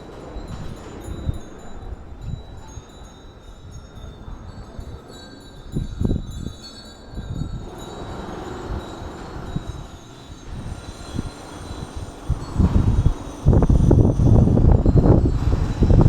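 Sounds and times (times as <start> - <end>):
wind chimes tinkling: 0.0 - 16.0.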